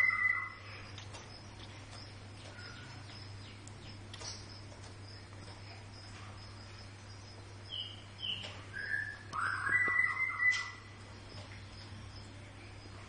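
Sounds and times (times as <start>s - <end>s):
bird calling: 0.0s - 5.3s, 6.2s - 11.8s.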